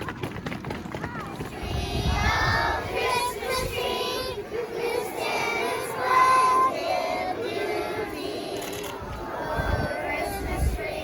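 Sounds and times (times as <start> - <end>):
children singing: 1.5 - 11.0.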